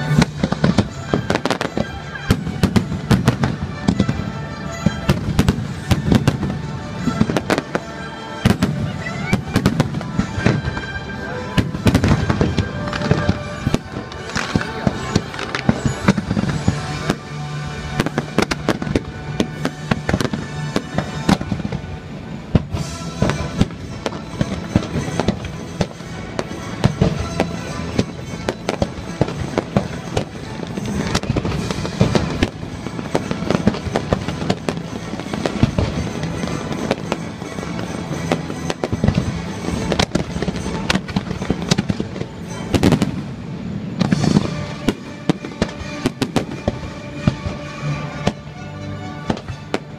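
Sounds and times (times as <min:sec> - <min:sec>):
fireworks bangs and crackling: 0:00.0 - 0:49.9
music soundtrack: 0:00.0 - 0:49.9.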